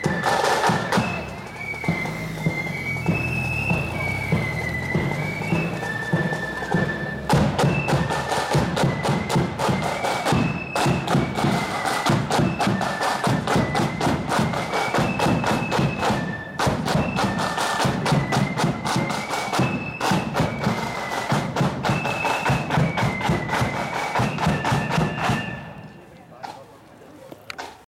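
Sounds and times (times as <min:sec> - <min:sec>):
snare drums rattling: 0:00.0 - 0:25.7
high flute melody: 0:00.0 - 0:26.3.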